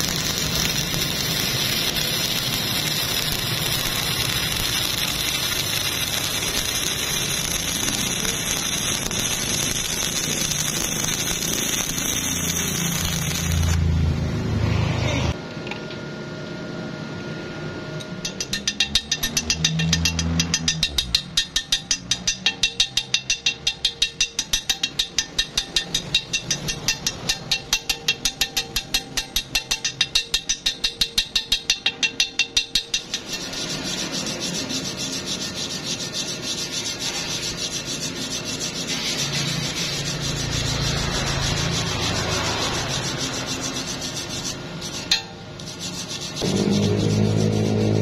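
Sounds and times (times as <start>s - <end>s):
steel bar scraping steel collar: 0.0s - 13.8s, 18.2s - 48.0s.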